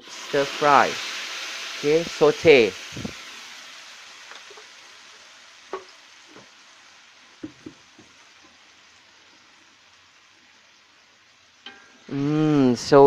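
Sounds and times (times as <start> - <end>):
paste frying in a wok: 0.0 - 13.0.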